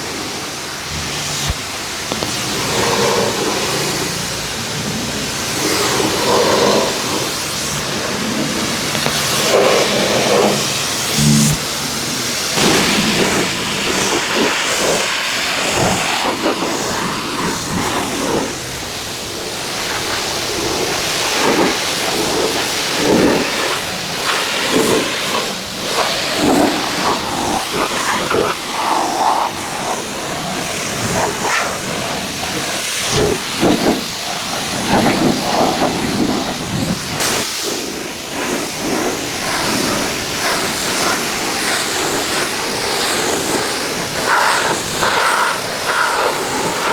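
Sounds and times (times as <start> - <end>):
pressure washer spray hissing: 0.0 - 46.9.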